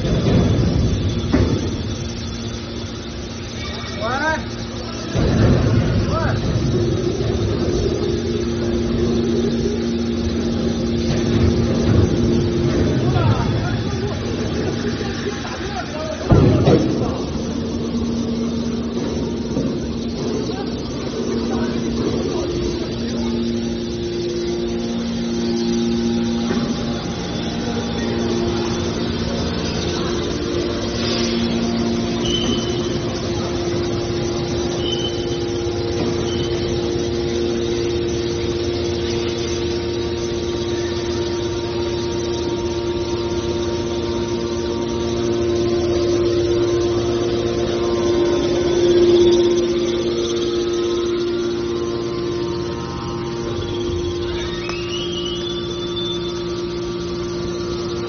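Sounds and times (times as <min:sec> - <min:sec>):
hydraulic baler humming: 0:00.0 - 0:58.0.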